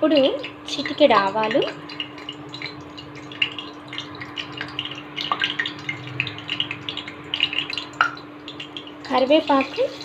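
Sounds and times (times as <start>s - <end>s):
seeds sizzling in hot oil: 0.0s - 10.0s
steady low hum: 0.0s - 10.0s.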